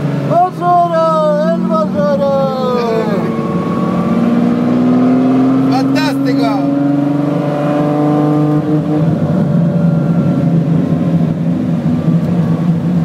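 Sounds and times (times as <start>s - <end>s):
car engine from inside: 0.0s - 13.0s.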